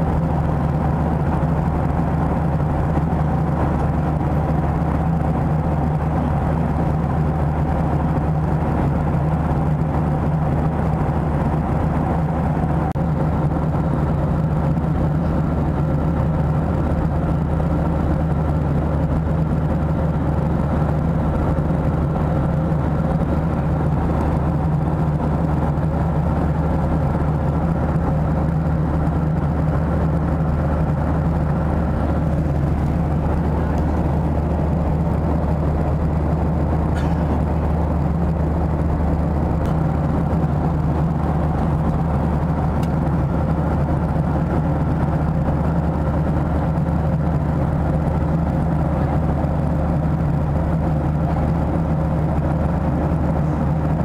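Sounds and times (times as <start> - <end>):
airliner cabin roar: 0.0 - 54.0
steady low hum: 0.0 - 54.0.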